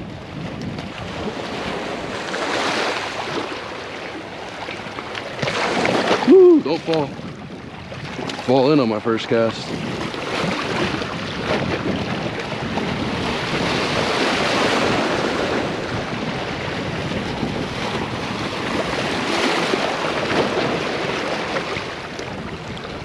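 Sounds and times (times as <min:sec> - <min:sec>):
small waves breaking on shore: 0:00.0 - 0:23.0
wind buffeting microphone: 0:00.0 - 0:23.0.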